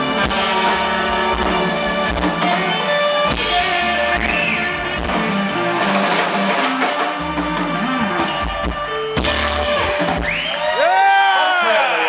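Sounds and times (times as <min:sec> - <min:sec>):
saxophone: 0:00.0 - 0:10.8
electric guitars: 0:00.0 - 0:11.2
drum kit: 0:00.0 - 0:11.6.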